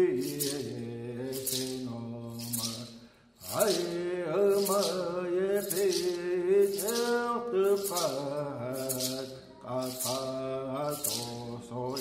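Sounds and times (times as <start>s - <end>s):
hand rattle shaken: 0.0s - 12.0s
man chanting in a low voice: 0.0s - 12.0s.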